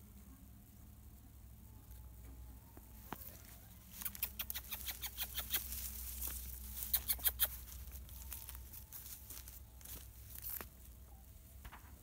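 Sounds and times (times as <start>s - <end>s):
dry grass rustling and crackling: 1.8s - 12.0s.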